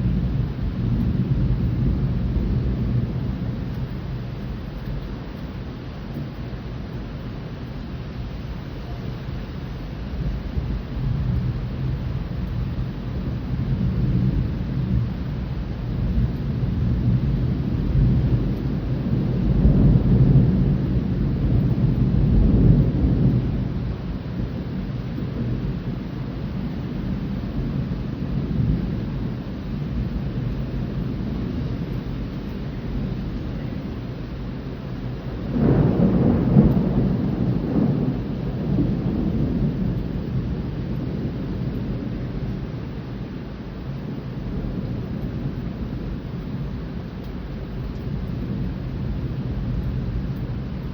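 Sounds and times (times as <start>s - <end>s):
rain hissing: 0.0s - 50.9s
rolling thunder rumbling: 0.0s - 50.9s.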